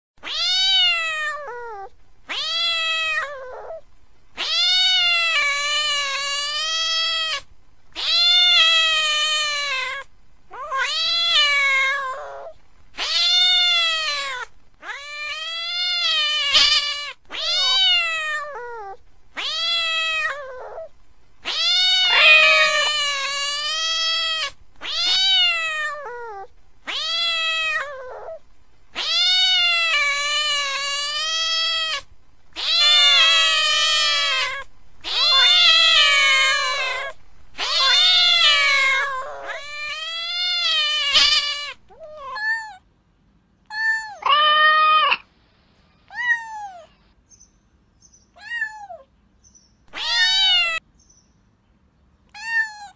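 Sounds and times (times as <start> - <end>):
cat meowing: 0.2 - 3.8, 4.4 - 28.4, 29.0 - 42.8, 43.6 - 45.3, 46.0 - 47.0, 48.3 - 49.1, 49.9 - 50.8, 52.3 - 52.9.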